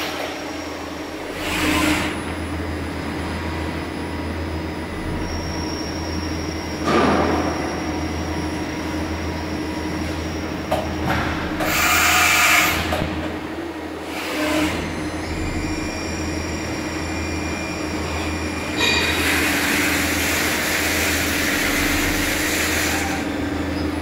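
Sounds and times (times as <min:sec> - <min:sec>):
machine hum: 0:00.0 - 0:24.0
thin high whine: 0:00.1 - 0:10.7, 0:14.4 - 0:24.0.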